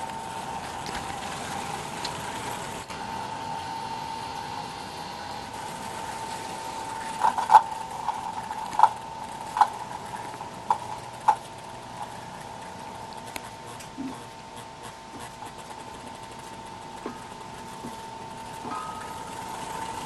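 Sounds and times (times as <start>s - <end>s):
model train wheels clicking: 0.0s - 13.9s, 15.2s - 20.0s
steady high hum: 0.0s - 20.0s.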